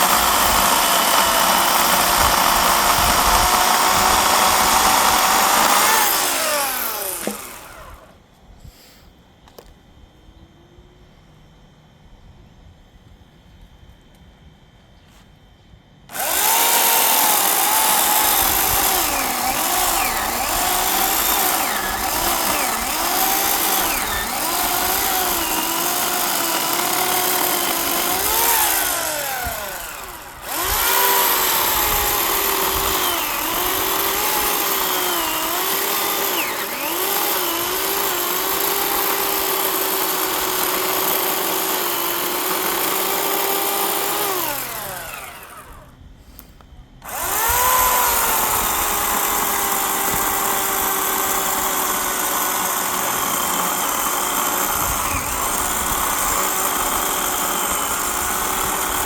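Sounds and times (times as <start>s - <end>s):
electric chainsaw cutting log: 0.0s - 8.2s, 16.1s - 59.0s.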